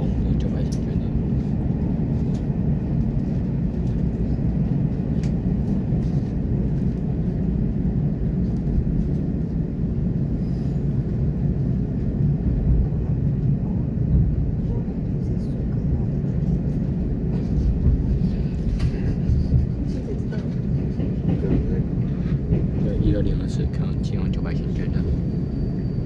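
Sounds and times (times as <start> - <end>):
train running noise inside carriage: 0.0 - 26.0.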